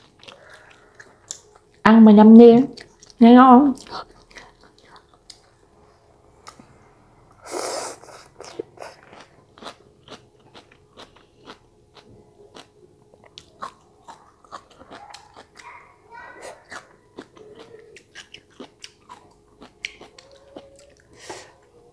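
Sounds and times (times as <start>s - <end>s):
crunchy chewing: 0.0s - 1.8s, 2.7s - 5.6s, 7.9s - 21.7s.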